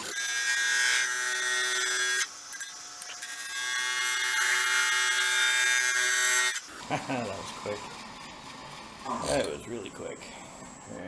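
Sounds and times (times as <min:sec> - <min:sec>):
lathe gouge cutting wood: 0:00.0 - 0:09.0.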